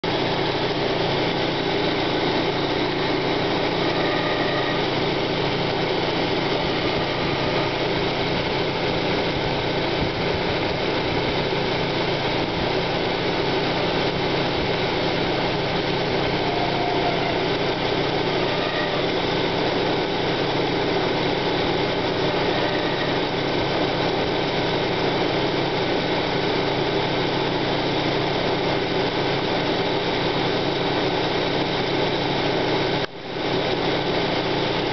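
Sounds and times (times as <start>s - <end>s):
car engine running: 0.0s - 34.9s
constant grinding noise: 0.0s - 34.9s.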